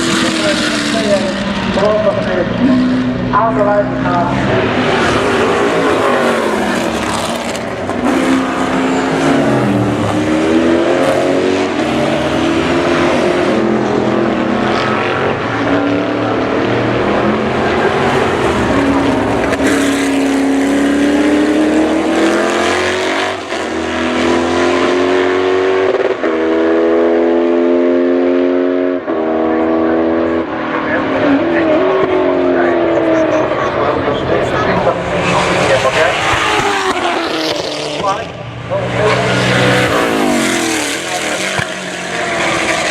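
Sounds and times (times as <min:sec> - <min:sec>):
race car engine revving: 0:00.0 - 0:42.9.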